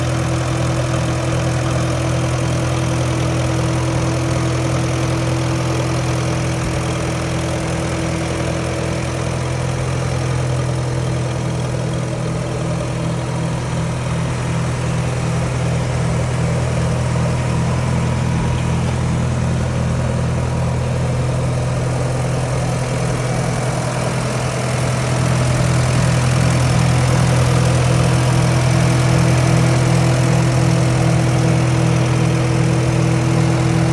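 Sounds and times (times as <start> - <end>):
tractor engine idling: 0.0 - 33.9.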